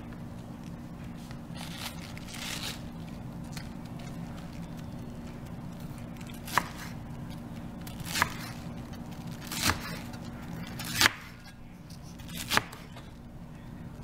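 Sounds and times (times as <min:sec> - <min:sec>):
knife crunching through cabbage: 0:01.3 - 0:13.1.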